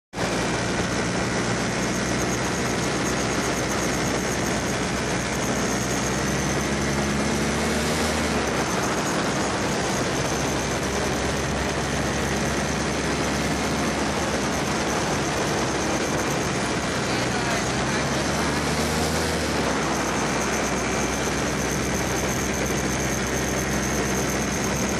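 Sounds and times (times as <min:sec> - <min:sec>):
paramotor engine running: 0:00.2 - 0:24.9.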